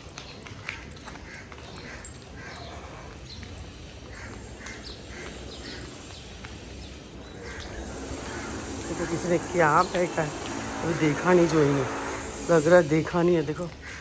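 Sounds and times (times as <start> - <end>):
low outdoor hum: 0.0 - 14.0.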